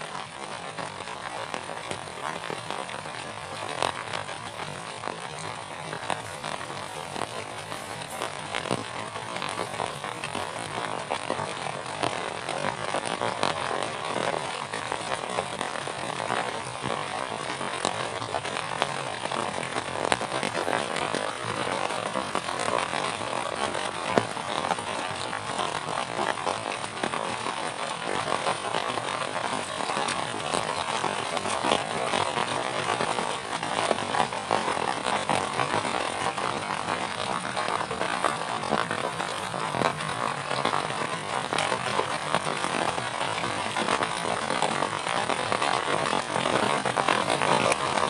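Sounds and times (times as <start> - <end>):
heavy rain hiss: 0.0 - 48.0
raindrops ticking: 0.0 - 48.0.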